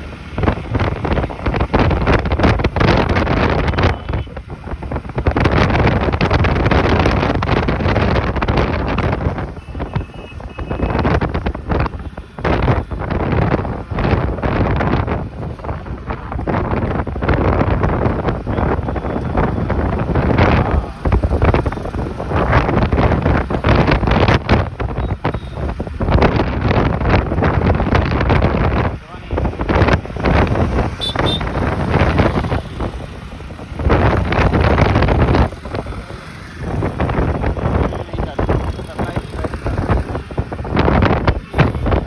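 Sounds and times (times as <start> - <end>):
road traffic passing: 0.0 - 42.0
wind buffeting microphone: 0.0 - 42.0.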